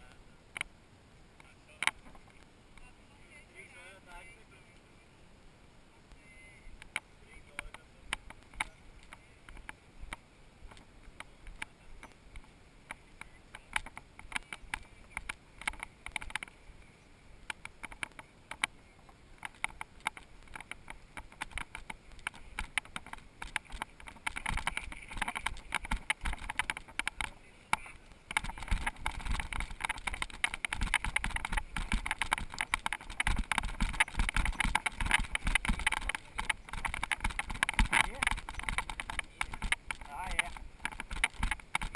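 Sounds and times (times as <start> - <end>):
bike clicks and rattles over stones: 1.8 - 2.4, 6.8 - 41.9.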